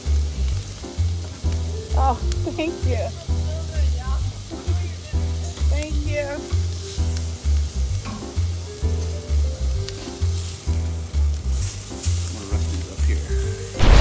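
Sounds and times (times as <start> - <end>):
steaks sizzling on grill: 0.0 - 14.0.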